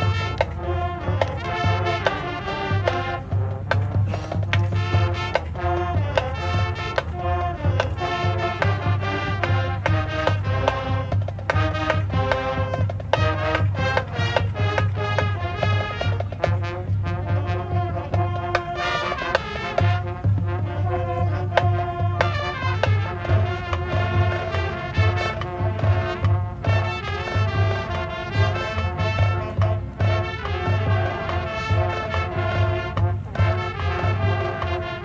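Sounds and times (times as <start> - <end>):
bass drums beating: 0.0 - 35.0
brass melody and chords: 0.0 - 35.0.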